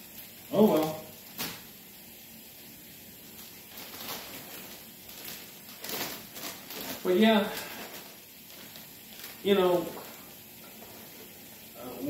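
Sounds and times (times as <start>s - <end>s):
plastic bags crinkling: 0.5s - 1.8s, 3.2s - 11.8s.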